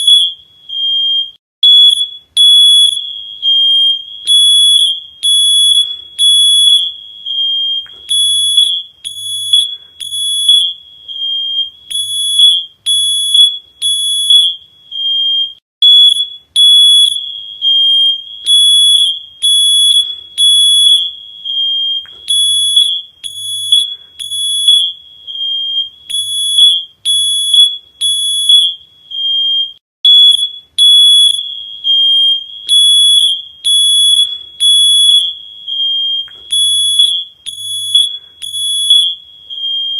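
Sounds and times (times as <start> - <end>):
electronic alarm beeping: 0.0 - 39.9.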